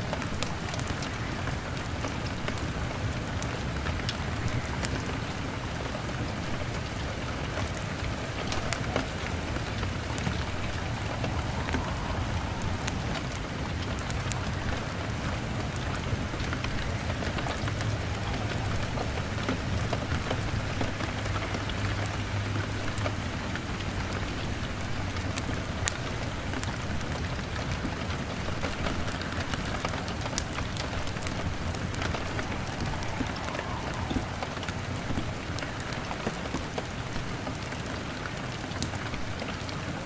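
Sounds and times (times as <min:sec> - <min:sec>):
rain on a window: 0:00.0 - 0:40.0.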